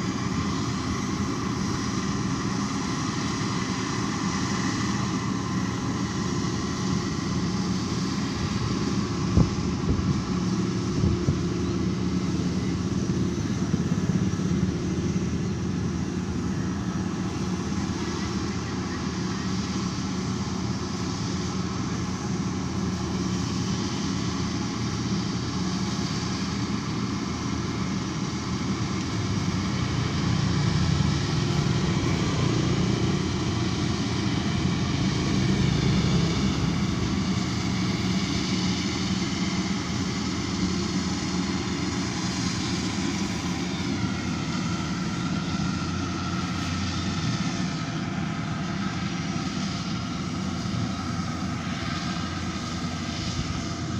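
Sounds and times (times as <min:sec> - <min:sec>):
combine harvester engine drone: 0:00.0 - 0:53.9.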